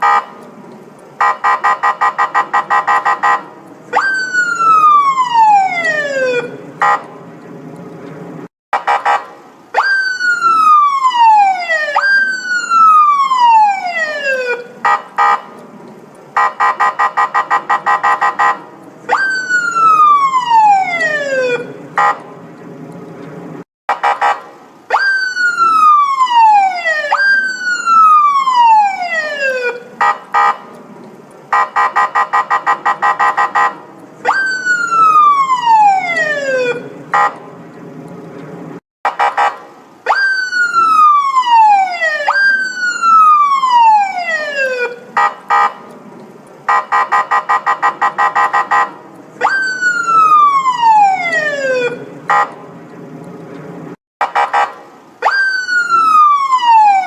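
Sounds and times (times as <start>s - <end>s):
police siren wailing and pulsing: 0.0s - 0.5s, 1.2s - 7.1s, 8.8s - 15.6s, 16.3s - 22.3s, 23.9s - 30.8s, 31.5s - 38.0s, 39.1s - 45.9s, 46.6s - 52.6s, 54.2s - 57.0s.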